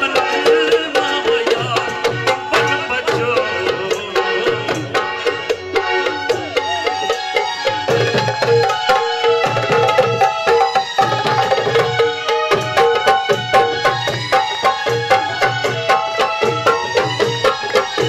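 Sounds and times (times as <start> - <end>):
hand drum rhythm: 0.0 - 18.0.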